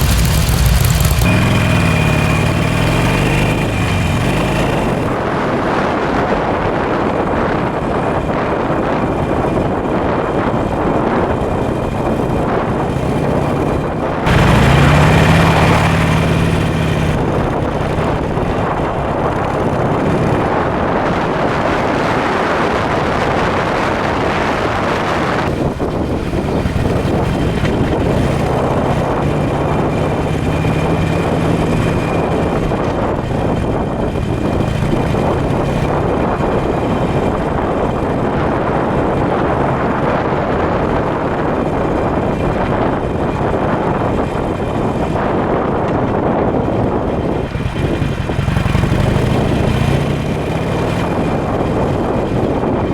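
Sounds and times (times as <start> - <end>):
motorcycle exhaust running: 0.0 - 52.9.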